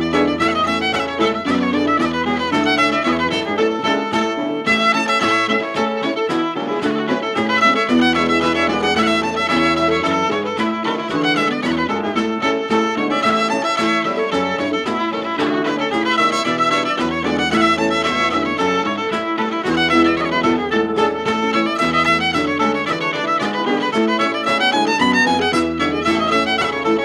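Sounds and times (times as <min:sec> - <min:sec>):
fiddle playing quick hornpipe: 0:00.0 - 0:27.0.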